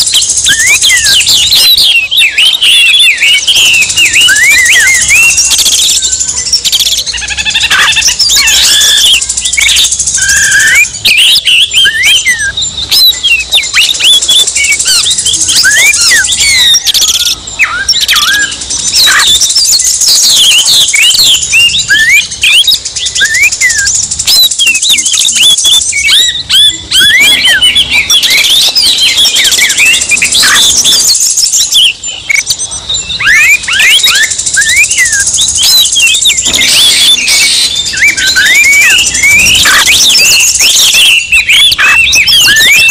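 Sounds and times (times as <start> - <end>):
bird singing fast whistles: 0.0 - 42.9.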